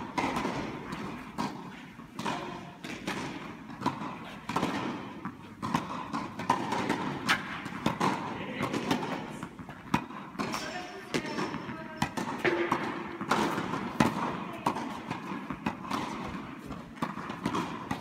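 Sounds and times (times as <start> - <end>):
tennis balls bouncing on court: 0.0 - 18.0
tennis balls struck by rackets: 0.0 - 18.0.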